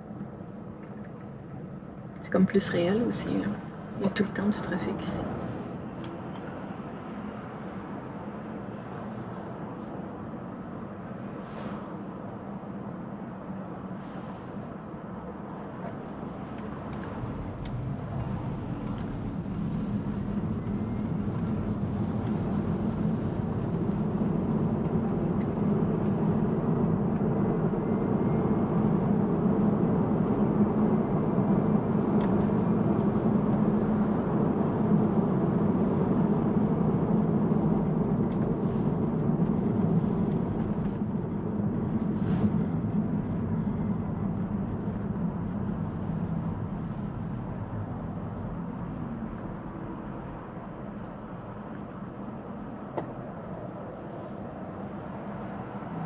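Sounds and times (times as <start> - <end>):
road and tyre noise in car cabin: 0.0 - 56.0.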